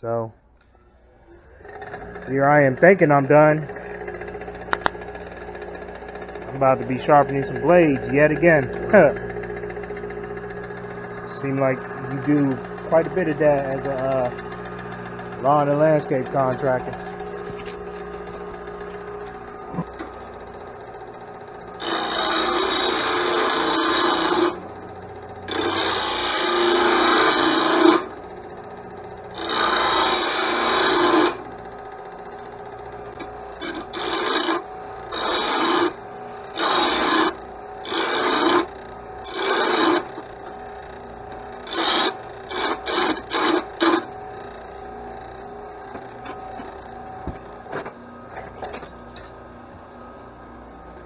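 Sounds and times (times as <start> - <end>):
metal rasping on metal: 1.6 - 47.4.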